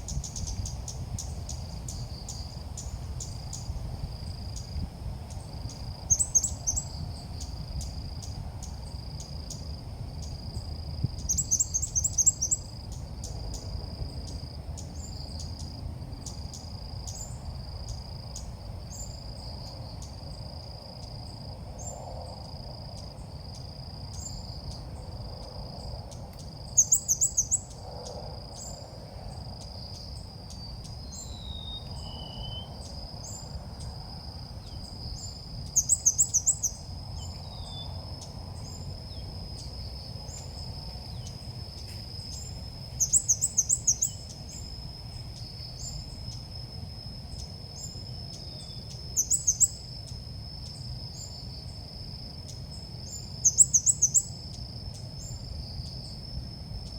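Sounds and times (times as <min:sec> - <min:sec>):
high insect-like whine: 0:00.0 - 0:56.9.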